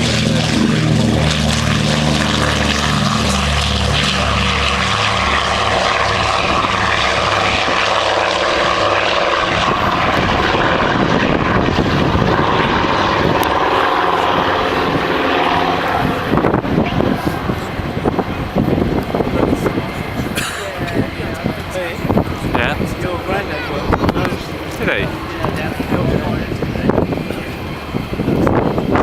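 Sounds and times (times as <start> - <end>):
aircraft engines roaring: 0.0 - 29.0
rushing propeller noise: 0.0 - 29.0.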